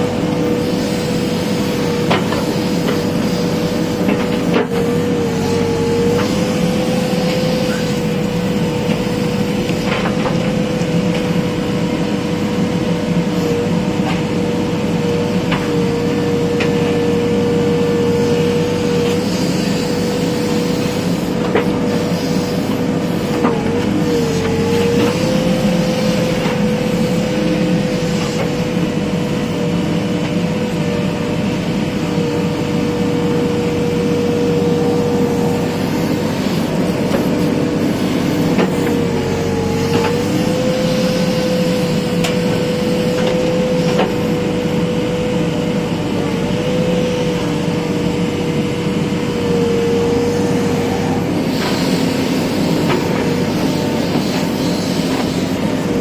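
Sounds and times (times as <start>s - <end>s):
backhoe diesel engine whining: 0.0s - 56.0s.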